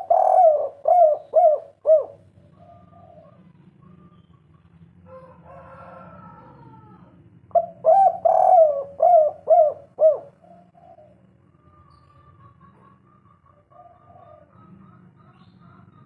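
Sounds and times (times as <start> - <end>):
dove cooing: 0.0 - 4.4, 5.1 - 16.0
faint background bird calls: 0.0 - 16.0.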